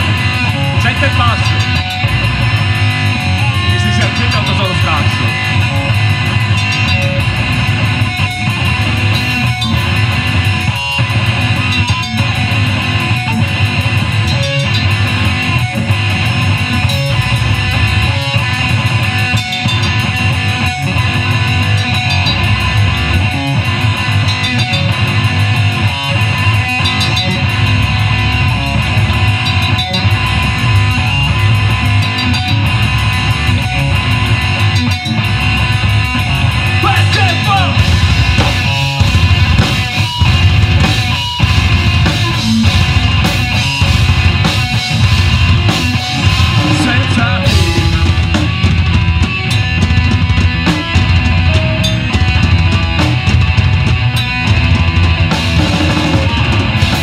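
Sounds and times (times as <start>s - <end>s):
bass guitar: 0.0s - 57.0s
drum kit beat: 0.0s - 57.0s
electric guitar: 0.0s - 57.0s
live rock band playing: 0.0s - 57.0s.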